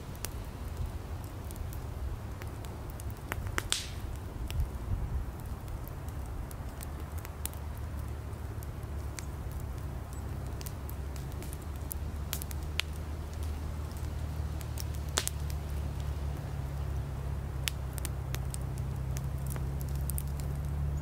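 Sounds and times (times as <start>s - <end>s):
firewood popping and snapping: 0.0s - 21.0s
low rumble of fire: 0.0s - 21.0s.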